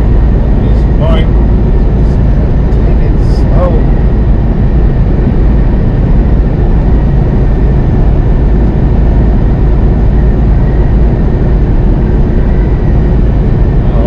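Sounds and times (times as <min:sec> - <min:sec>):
diesel engine rumble: 0:00.0 - 0:14.0
faint steady whine: 0:00.0 - 0:14.0.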